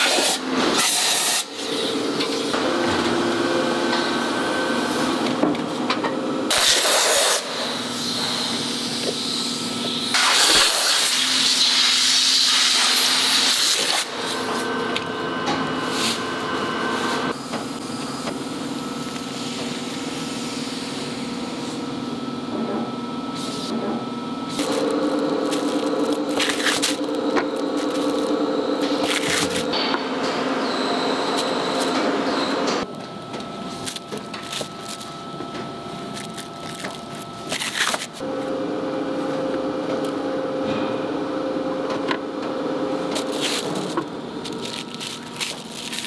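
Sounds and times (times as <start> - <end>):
factory machinery humming: 0.0 - 46.0.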